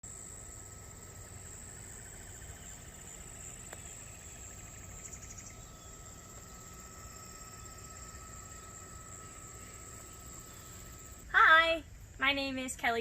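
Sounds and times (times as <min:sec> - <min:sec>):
crickets chirping: 0:00.0 - 0:12.4.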